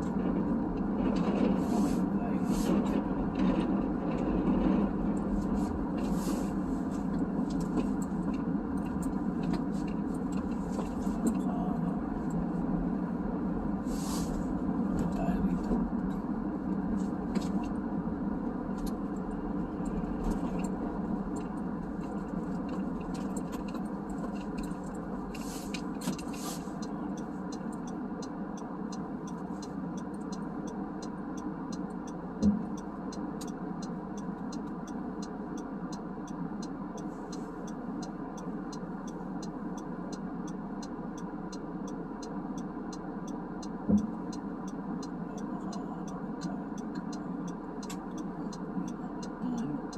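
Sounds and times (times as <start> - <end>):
car road and engine rumble: 0.0 - 49.9
turn signal clicking: 2.7 - 49.9.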